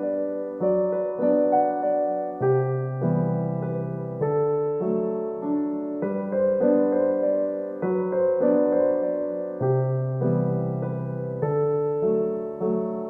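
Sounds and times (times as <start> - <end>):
soft slow piano music: 0.0 - 13.0.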